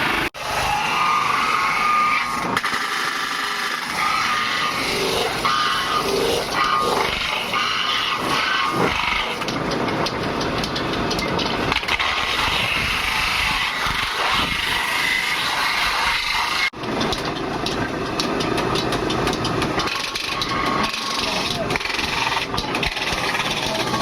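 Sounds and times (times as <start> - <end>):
machine running: 0.0 - 24.0.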